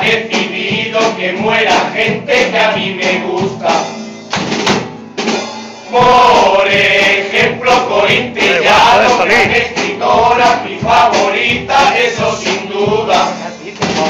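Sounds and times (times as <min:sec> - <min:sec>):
male voices singing in chorus: 0:00.0 - 0:04.0, 0:05.9 - 0:14.0.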